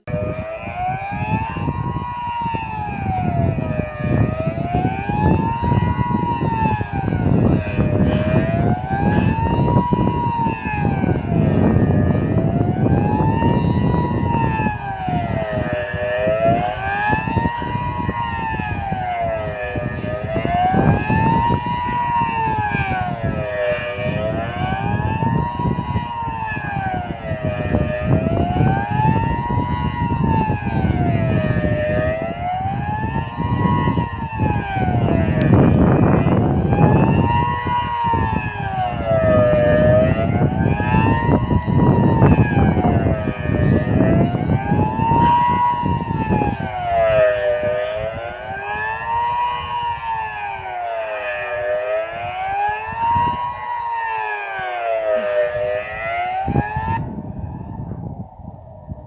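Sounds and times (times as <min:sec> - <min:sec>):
electronic siren wailing: 0:00.0 - 0:59.0
second fainter siren wail: 0:00.0 - 0:59.0.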